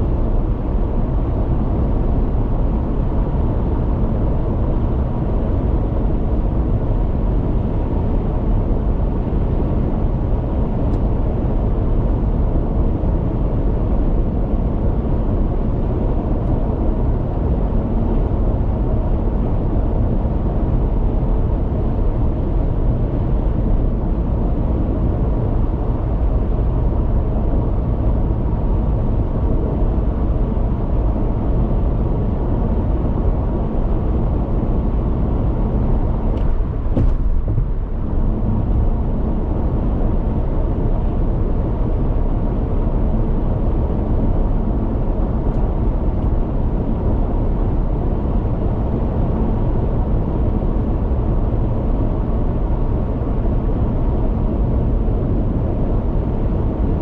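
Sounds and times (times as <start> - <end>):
car tyre and engine noise: 0.0 - 57.0.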